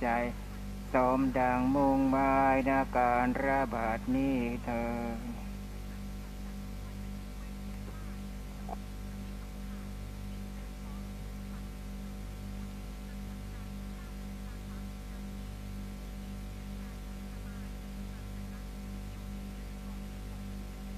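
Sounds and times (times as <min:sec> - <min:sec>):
pulsing electrical hum: 0:00.0 - 0:20.9.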